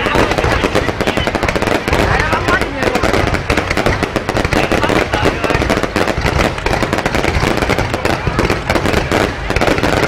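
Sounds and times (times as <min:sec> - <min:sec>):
fireworks crackling bangs: 0:00.0 - 0:10.0.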